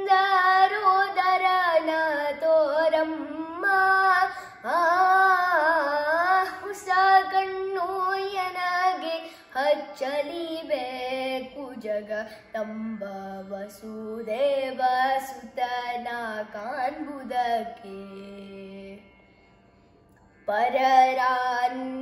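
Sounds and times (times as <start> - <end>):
boy singing: 0.0 - 19.0, 20.5 - 22.0.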